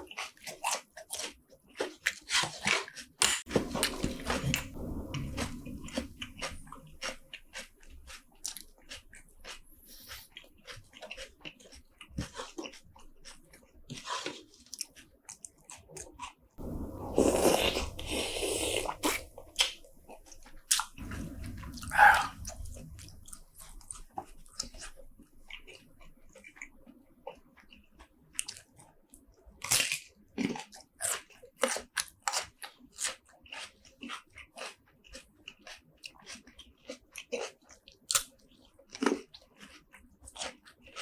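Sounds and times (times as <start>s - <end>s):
chewing and crunching: 0.0s - 41.0s.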